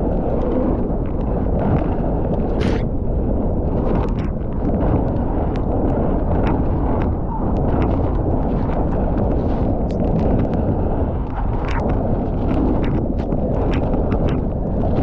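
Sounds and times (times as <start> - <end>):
wind and tyre noise: 0.0 - 15.0.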